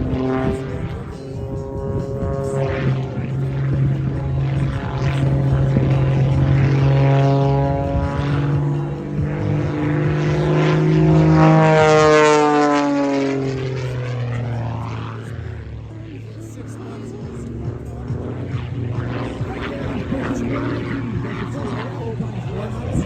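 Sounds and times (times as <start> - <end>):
propeller plane engine: 0.0 - 23.0.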